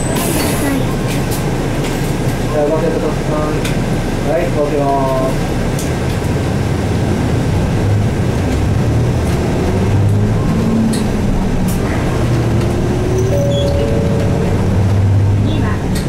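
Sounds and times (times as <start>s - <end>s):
bus diesel engine accelerating: 0.0s - 16.0s.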